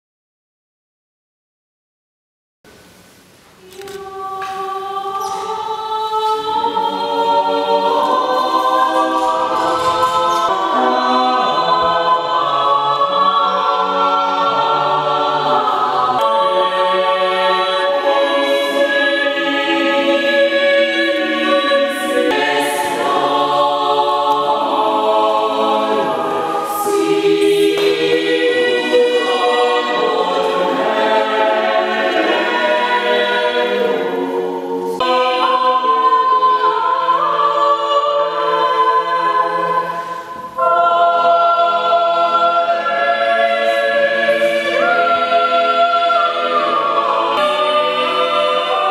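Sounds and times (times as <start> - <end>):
choir singing held chords: 3.6 - 48.9.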